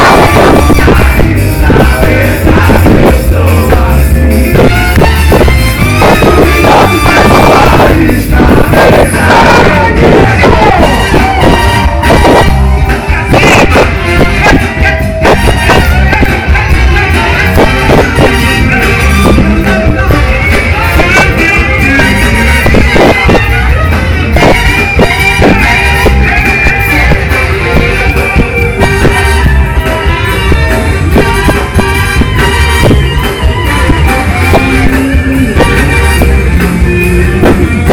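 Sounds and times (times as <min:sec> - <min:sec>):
live funk band playing: 0:00.0 - 0:37.9
steady drum beat: 0:00.0 - 0:37.9.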